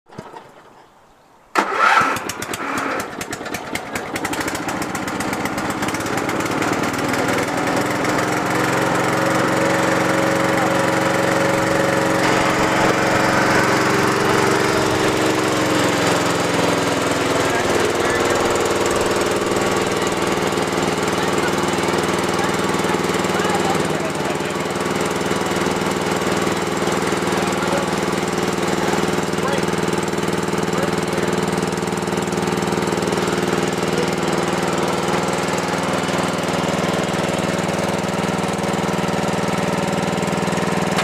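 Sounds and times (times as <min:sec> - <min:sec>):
riding lawn mower engine: 0:00.1 - 0:41.0.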